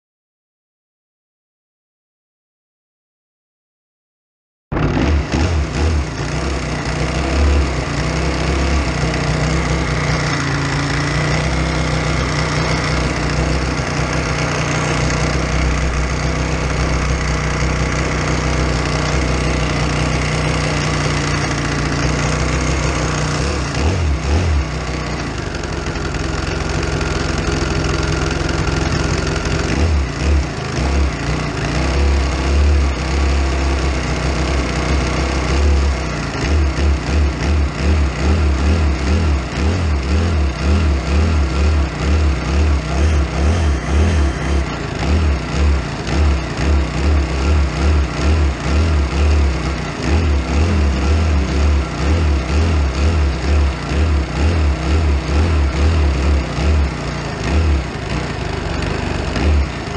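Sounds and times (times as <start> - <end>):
motorcycle engine idling: 4.7 - 59.9.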